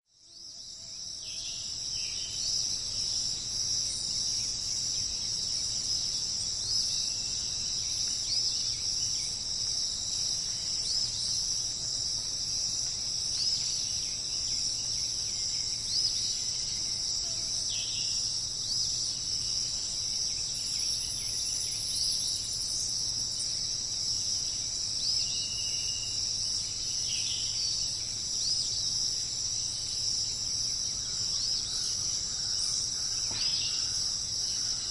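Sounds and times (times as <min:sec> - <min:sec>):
insect chorus: 0:00.1 - 0:34.9.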